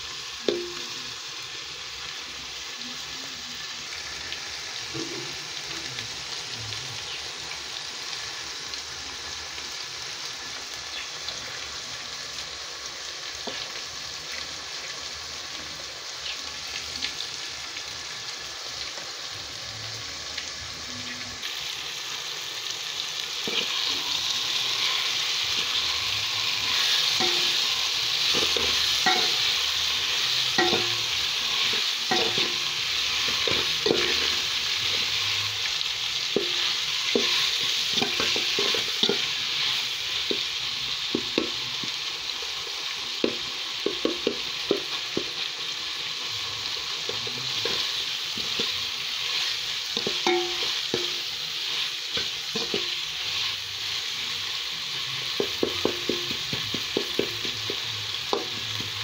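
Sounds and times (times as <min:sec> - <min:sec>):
fish sizzling in a pot: 0:00.0 - 0:59.0.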